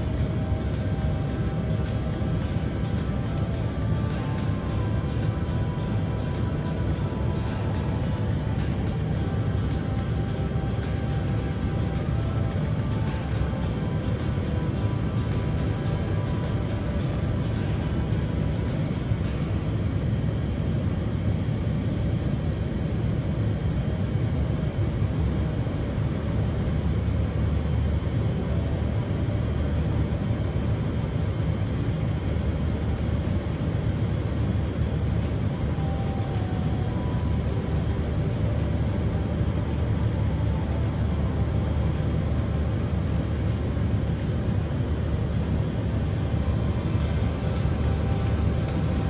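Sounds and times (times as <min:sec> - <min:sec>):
aircraft engine and propeller droning: 0:00.0 - 0:49.0.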